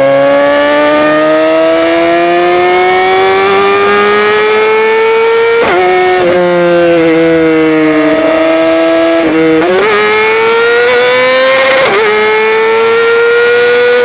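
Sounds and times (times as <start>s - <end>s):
motorcycle engine running: 0.1s - 14.0s.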